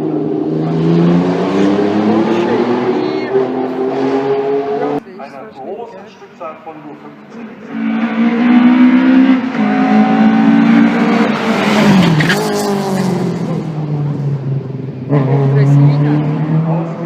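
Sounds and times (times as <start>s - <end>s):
racing car engine at high revs: 0.0s - 5.0s, 7.3s - 17.0s.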